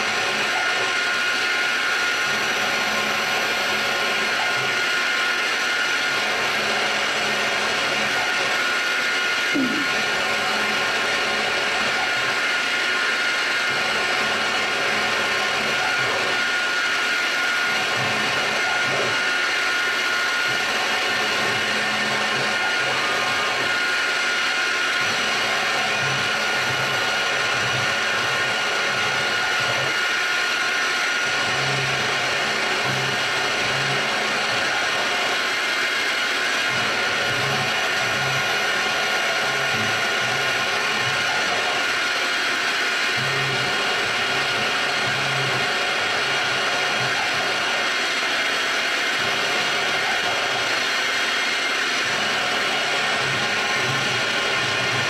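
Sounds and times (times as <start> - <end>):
milling machine spindle whine: 0.0 - 55.0.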